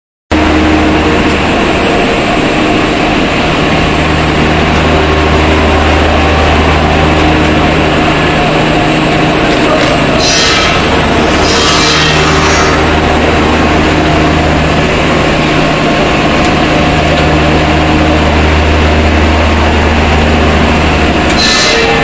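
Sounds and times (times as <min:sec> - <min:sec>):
electric motor and gearbox humming: 0:00.4 - 0:22.0.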